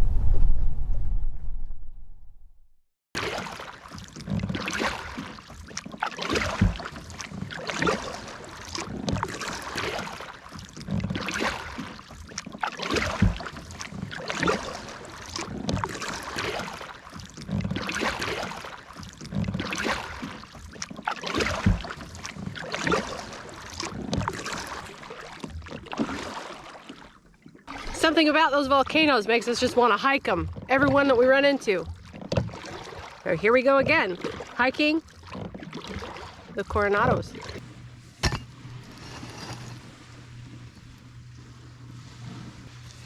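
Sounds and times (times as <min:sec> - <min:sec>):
water splashing and sloshing: 0:03.2 - 0:43.0.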